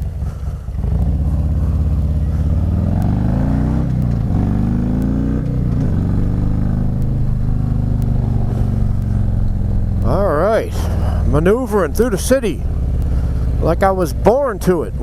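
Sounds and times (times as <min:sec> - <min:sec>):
motorcycle engine revving and shifting: 0:00.0 - 0:15.0.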